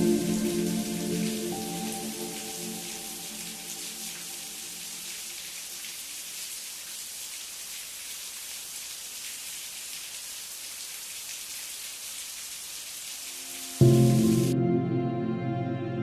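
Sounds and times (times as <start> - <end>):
steady rain falling: 0.0 - 14.6.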